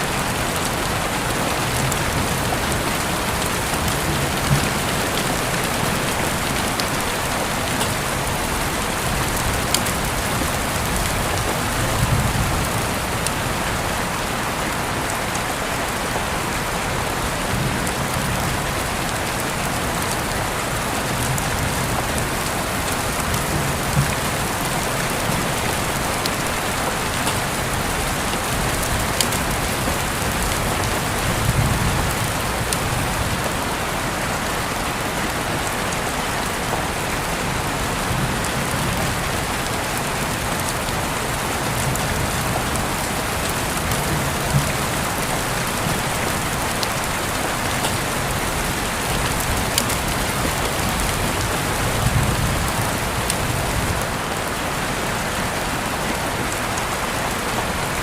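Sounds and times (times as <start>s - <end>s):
steady rainfall hiss: 0.0s - 58.0s
raindrops ticking: 0.1s - 14.3s, 17.5s - 34.0s, 35.7s - 54.1s.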